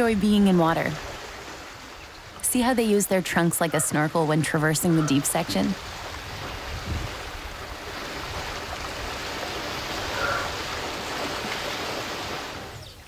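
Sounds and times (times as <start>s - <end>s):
water splashing and swirling: 0.0s - 13.0s.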